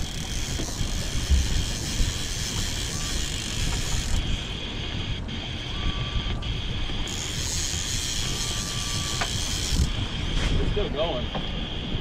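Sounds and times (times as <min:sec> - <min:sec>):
outboard motor running: 0:00.0 - 0:12.0
wind and water on microphone: 0:00.0 - 0:12.0.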